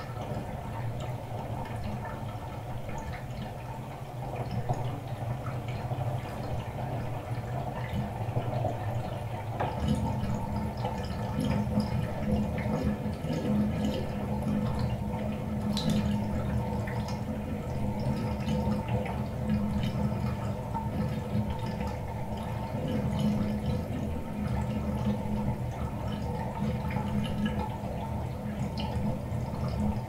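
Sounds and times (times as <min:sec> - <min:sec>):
small drips and clicks: 0:00.0 - 0:30.0
water rushing down drain: 0:00.0 - 0:30.0.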